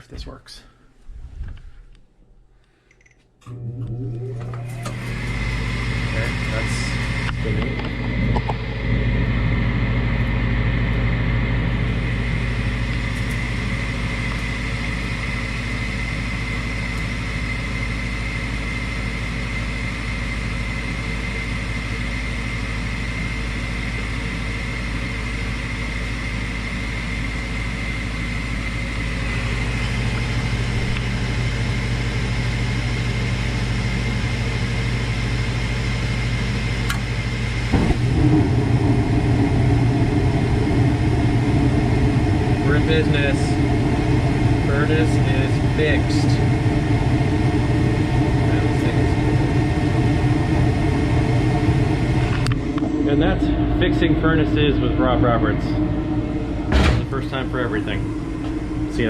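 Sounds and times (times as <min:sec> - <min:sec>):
blower motor whining and humming: 0:03.0 - 0:59.0.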